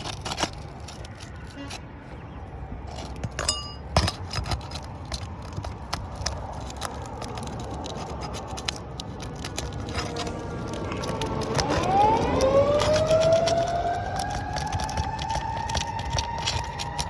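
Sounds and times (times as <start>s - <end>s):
roof shingles scraping and clicking: 0.0s - 17.0s.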